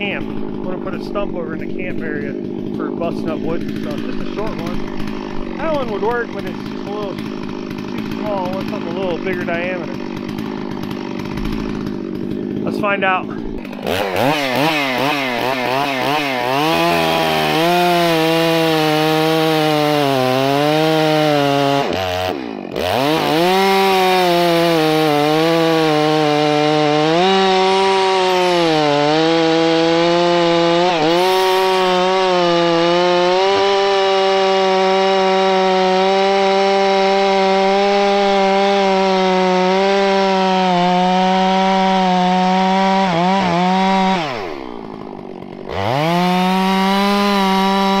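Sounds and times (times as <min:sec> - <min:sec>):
chainsaw cutting log: 0:00.0 - 0:48.0.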